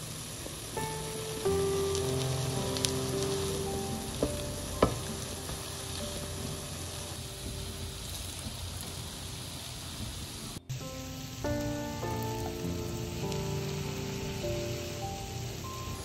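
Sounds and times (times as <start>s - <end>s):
patties sizzling in oil: 0.0s - 16.0s.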